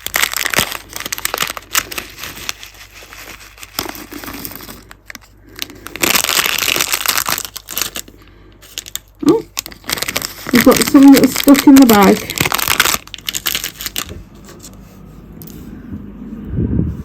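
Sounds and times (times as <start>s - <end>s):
bag of beads crinkling: 0.0s - 14.4s.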